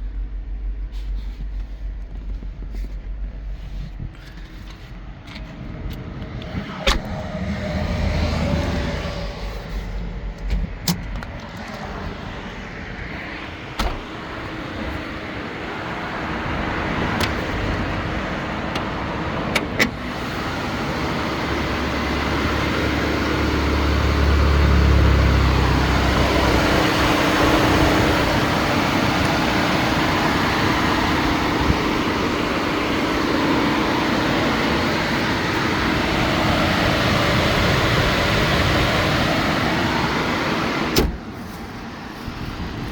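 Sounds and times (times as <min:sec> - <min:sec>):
car engine running: 0:00.0 - 0:42.9
road noise: 0:00.0 - 0:42.9.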